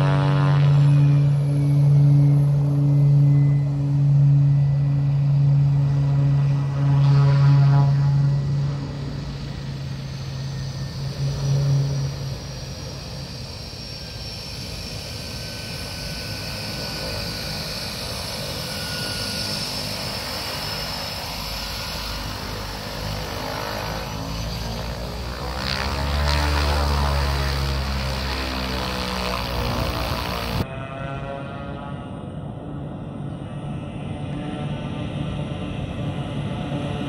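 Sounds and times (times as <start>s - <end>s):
propeller drone: 0.0s - 37.0s
turboprop engine whine: 0.0s - 37.0s.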